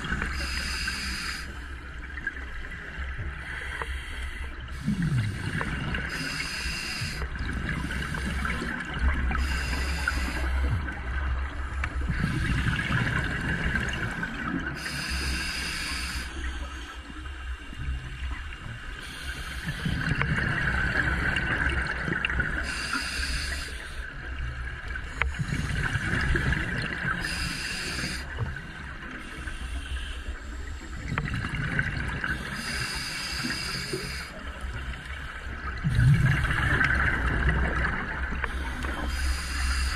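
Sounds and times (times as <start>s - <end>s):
exhaled bubbles gurgling: 2.0s - 16.6s, 17.9s - 39.9s.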